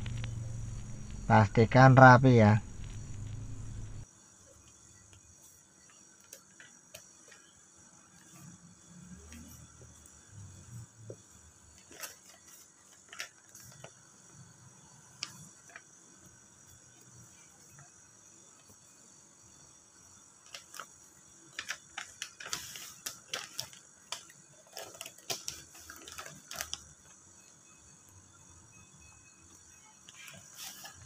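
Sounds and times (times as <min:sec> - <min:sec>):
vinyl film crinkling and ticking: 0:00.0 - 0:18.8, 0:20.4 - 0:28.2, 0:29.5 - 0:31.0.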